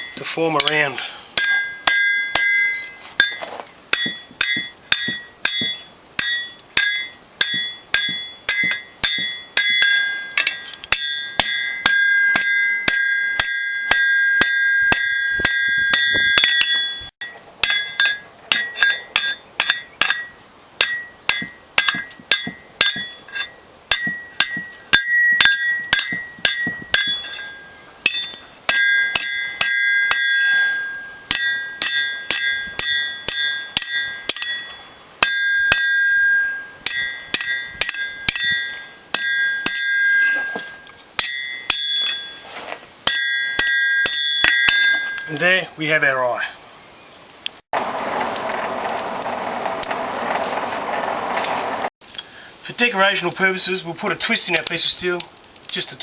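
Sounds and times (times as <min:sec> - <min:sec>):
hammer striking steel on anvil: 0:00.0 - 0:42.4, 0:43.0 - 0:45.4.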